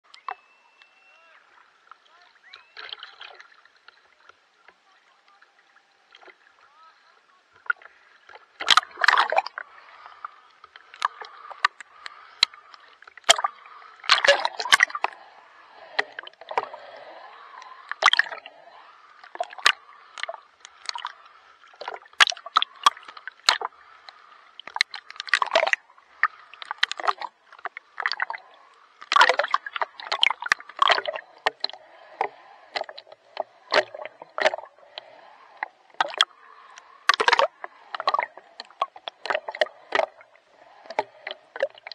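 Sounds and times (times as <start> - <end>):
water splashing from swimming: 2.0 - 7.0, 7.6 - 41.9.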